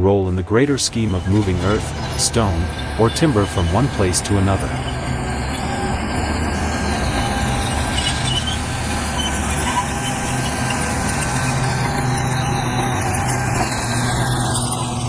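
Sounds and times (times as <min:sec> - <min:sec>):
diesel machinery running: 0:00.0 - 0:15.0
faint high-pitched squeal: 0:00.2 - 0:15.0.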